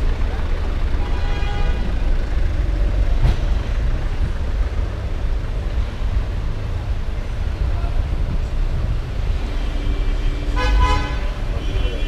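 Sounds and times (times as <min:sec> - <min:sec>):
low rumble of city ambience: 0:00.0 - 0:12.0.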